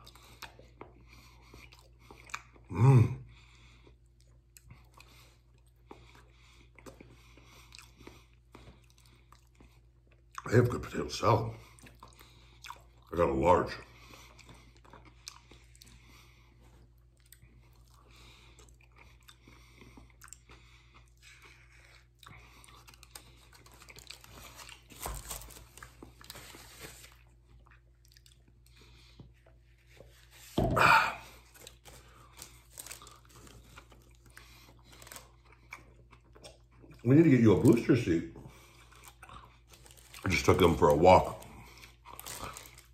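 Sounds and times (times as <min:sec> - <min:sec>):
person chewing food: 0:00.0 - 0:10.5, 0:11.6 - 0:13.2, 0:13.9 - 0:37.8, 0:38.4 - 0:42.9.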